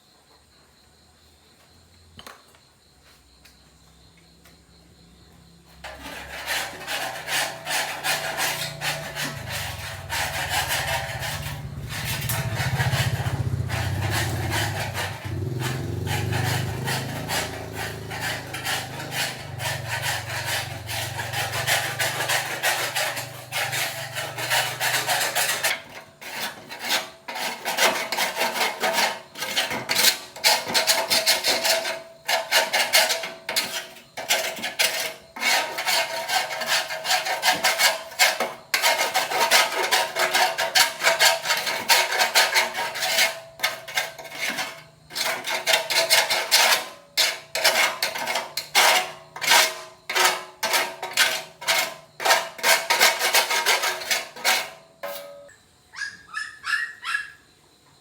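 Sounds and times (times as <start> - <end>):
rasping filing strokes: 5.8 - 55.2.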